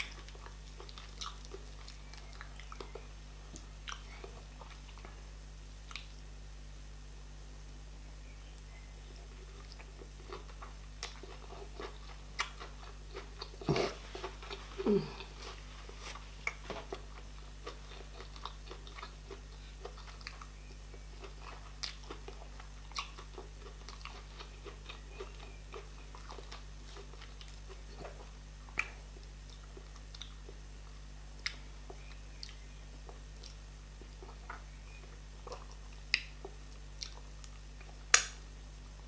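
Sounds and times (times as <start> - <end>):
person chewing food: 0.0 - 6.2, 9.4 - 38.4.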